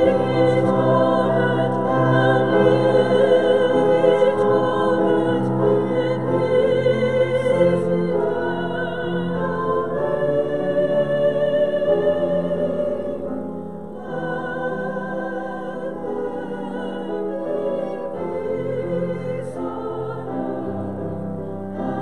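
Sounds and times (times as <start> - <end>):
voices singing sacred music: 0.0 - 22.0.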